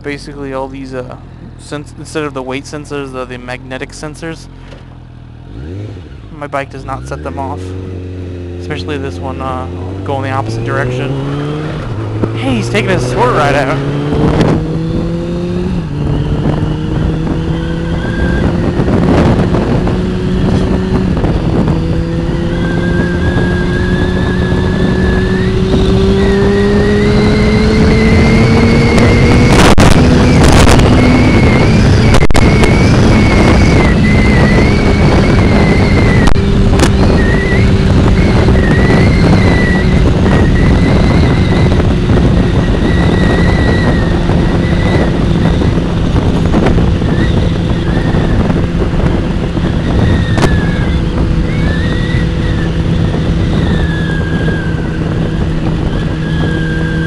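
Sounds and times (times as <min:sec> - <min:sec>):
motorcycle engine accelerating: 0:00.0 - 0:57.0
wind rush on microphone: 0:07.7 - 0:57.0.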